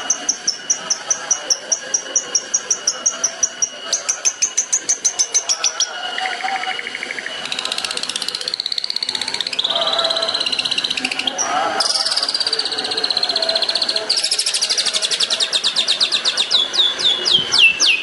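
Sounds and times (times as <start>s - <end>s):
bird singing high repeated notes: 0.0s - 18.0s.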